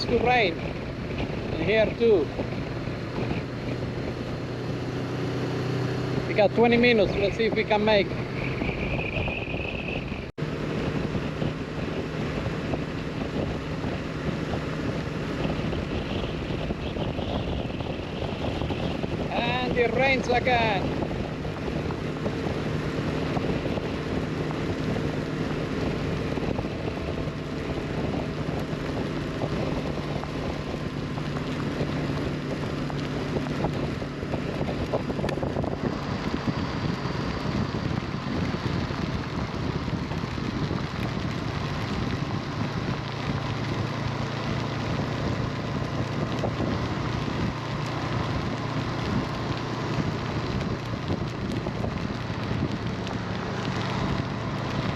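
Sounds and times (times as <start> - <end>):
motorcycle engine running: 0.0 - 54.9
rain: 0.0 - 54.9
wind noise on microphone: 0.0 - 54.9.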